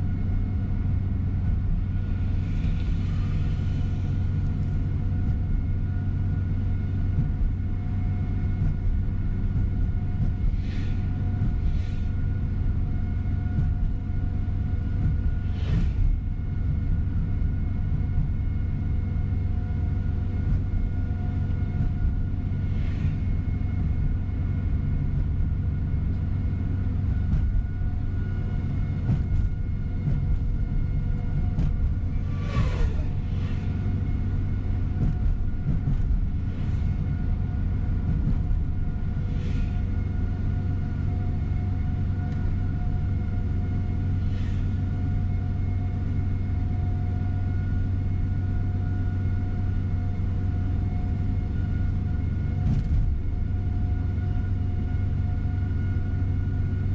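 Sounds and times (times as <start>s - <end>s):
bus engine and road rumble: 0.0s - 56.9s
faint whine: 0.0s - 56.9s.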